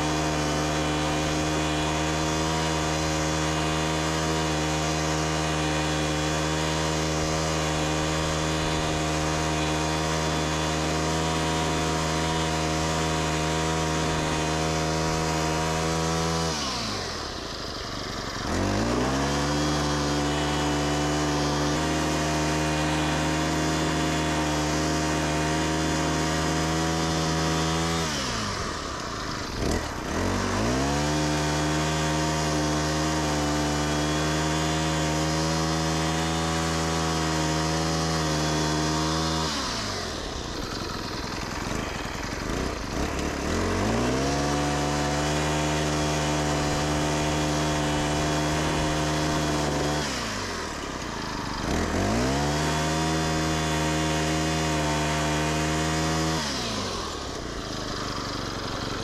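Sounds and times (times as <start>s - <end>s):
lawn edger engine running: 0.0s - 59.0s.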